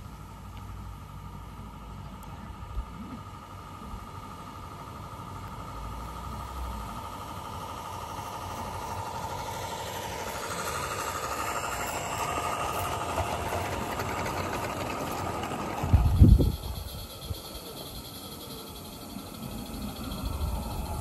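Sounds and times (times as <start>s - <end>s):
model locomotives whirring: 0.0s - 21.0s.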